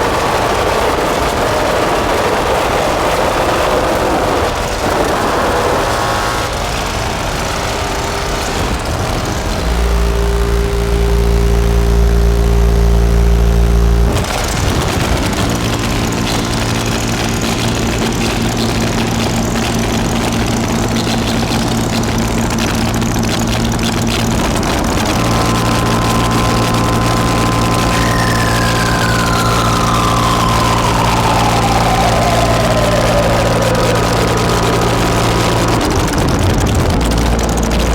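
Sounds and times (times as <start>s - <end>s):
distorted synthesizer drone: 0.0s - 37.9s.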